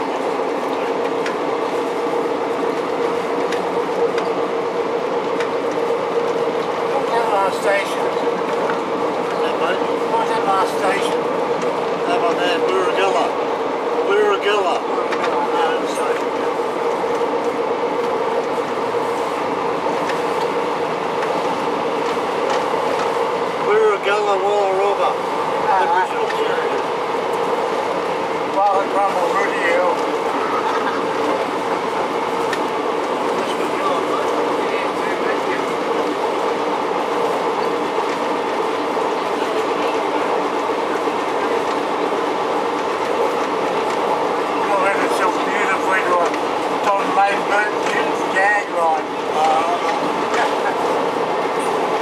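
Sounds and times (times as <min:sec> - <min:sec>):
train engine and wheel drone: 0:00.0 - 0:52.0.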